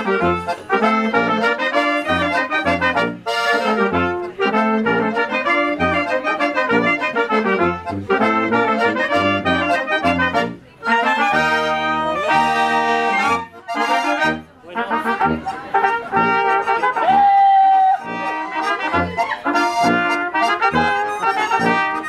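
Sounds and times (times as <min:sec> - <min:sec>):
tuba thumping bass: 0:00.0 - 0:16.9, 0:18.0 - 0:22.0
oompah band playing: 0:00.0 - 0:22.0.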